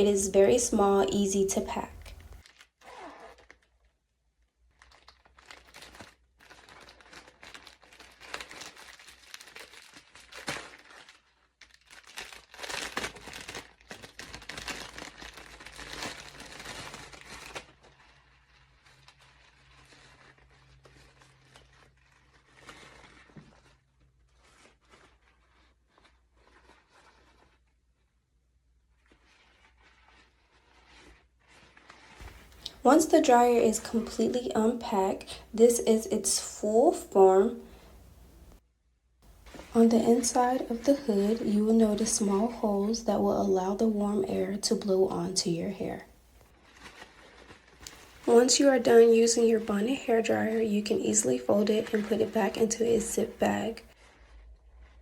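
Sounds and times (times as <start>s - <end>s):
plastic bag and fabric crinkling: 0.0s - 28.1s, 28.8s - 38.6s, 39.3s - 55.0s.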